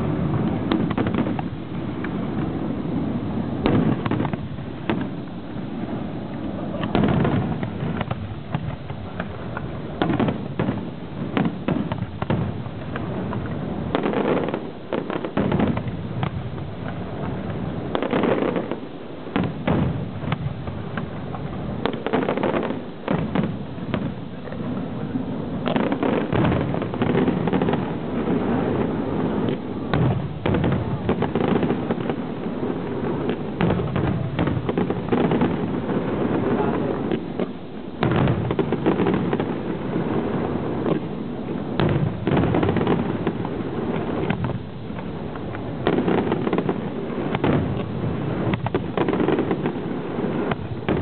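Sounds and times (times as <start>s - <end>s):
fireworks bursting and crackling: 0.0s - 51.0s.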